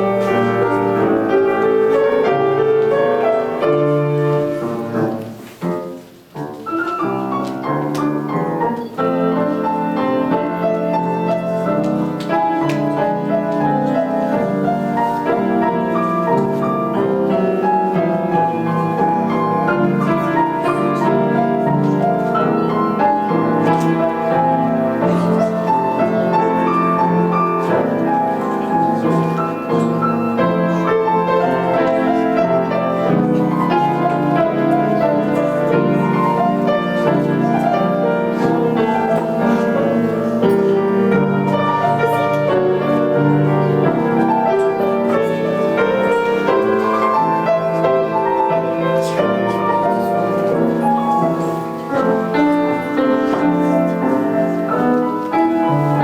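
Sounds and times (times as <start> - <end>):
two pianos playing: 0.0 - 56.0.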